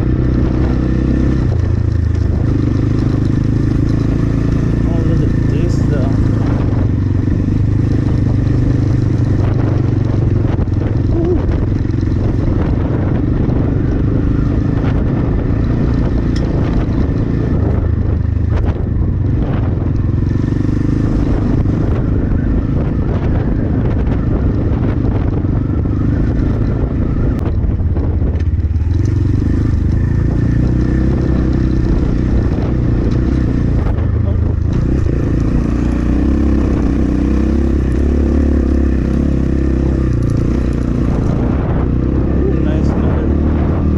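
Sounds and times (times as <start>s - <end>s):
dirt bike engine: 0.0s - 43.9s
wind buffeting microphone: 0.0s - 43.9s.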